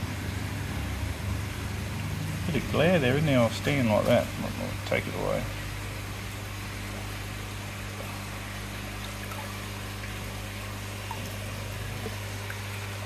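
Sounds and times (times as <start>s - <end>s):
aquarium pump humming: 0.0s - 13.0s
water trickling and splashing: 0.0s - 13.0s.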